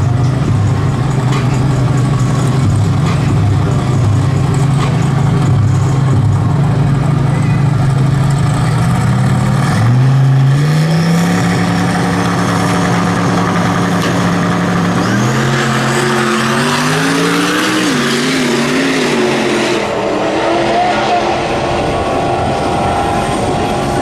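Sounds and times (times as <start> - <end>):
engines revving and accelerating: 0.0 - 24.0.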